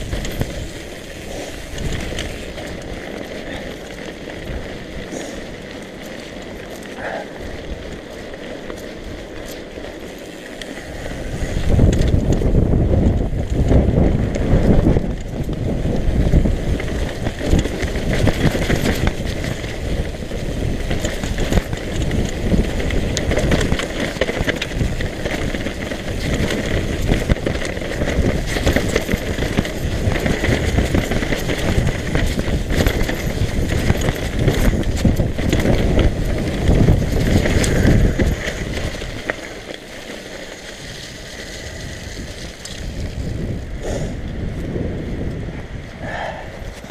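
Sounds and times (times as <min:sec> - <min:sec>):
wind rushing over microphone: 0:00.0 - 0:06.0, 0:10.5 - 0:46.9
bike chain and parts rattling: 0:00.0 - 0:46.9
bike tyres on dirt: 0:00.0 - 0:46.9.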